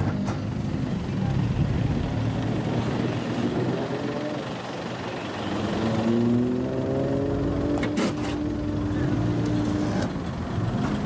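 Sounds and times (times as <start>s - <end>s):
car engine pulling away: 1.6s - 11.0s.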